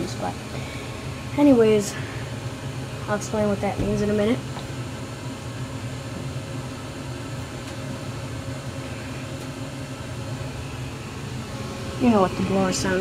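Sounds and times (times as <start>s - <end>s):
gas furnace humming and rushing: 0.0s - 13.0s.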